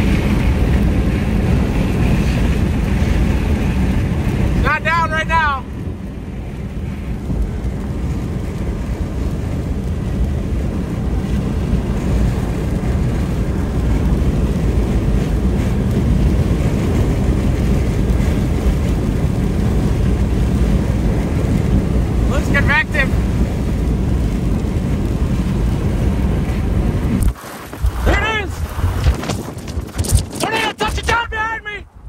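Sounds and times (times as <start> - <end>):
road and wind noise inside vehicle: 0.0 - 32.0.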